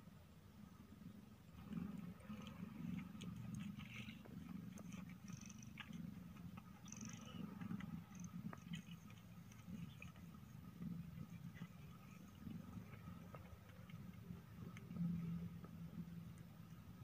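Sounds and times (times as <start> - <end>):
cat purring: 1.0 - 17.0
kittens suckling clicks and squeaks: 1.6 - 17.0.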